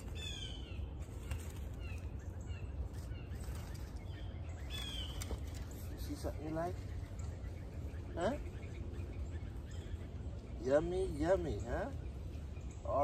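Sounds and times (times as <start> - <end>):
soft bird chirps: 0.0 - 13.0.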